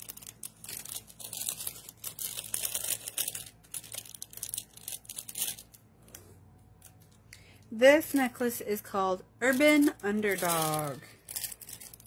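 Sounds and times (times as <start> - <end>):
plastic bag crinkling: 0.0 - 7.3, 8.0 - 12.0.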